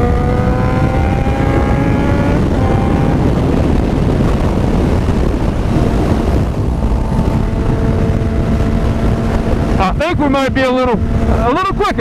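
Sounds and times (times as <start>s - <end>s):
motorcycle engine at speed: 0.0s - 12.0s
wind rush on microphone: 0.0s - 12.0s.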